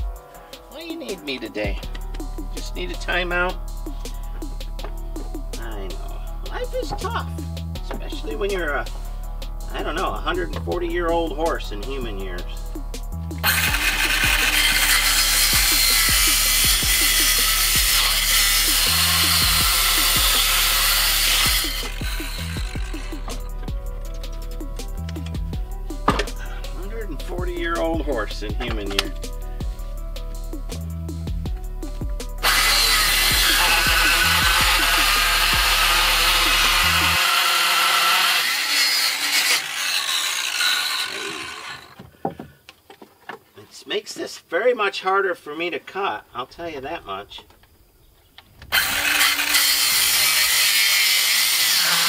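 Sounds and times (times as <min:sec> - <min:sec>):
circular saw cutting wood: 0:00.8 - 0:29.4, 0:32.2 - 0:42.0, 0:48.7 - 0:52.0.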